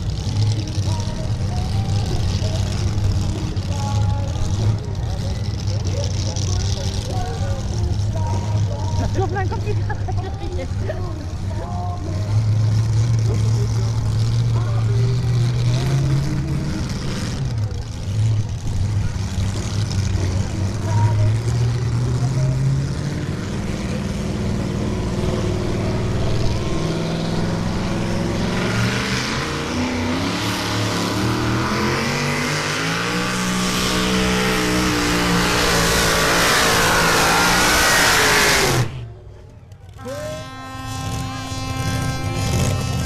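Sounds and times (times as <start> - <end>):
tractor engine running flat out: 0.0 - 43.0.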